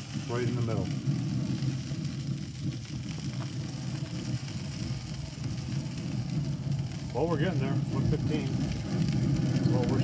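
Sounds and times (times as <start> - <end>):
grill fan and fire rumbling: 0.0 - 10.0.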